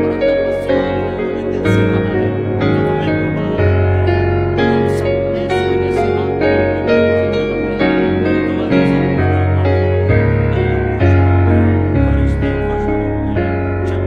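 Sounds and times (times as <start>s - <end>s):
slow instrumental music: 0.0s - 14.0s.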